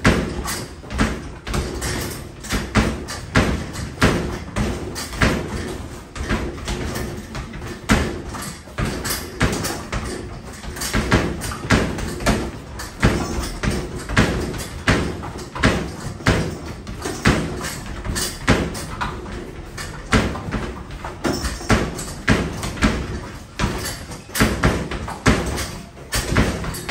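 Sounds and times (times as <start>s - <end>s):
basketballs thumping backboard and rim: 0.0s - 26.9s.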